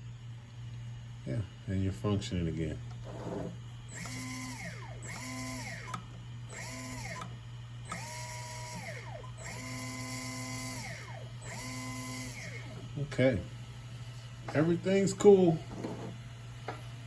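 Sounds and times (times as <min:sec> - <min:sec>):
steady low hum: 0:00.0 - 0:17.0
electric motor whine: 0:03.0 - 0:17.0.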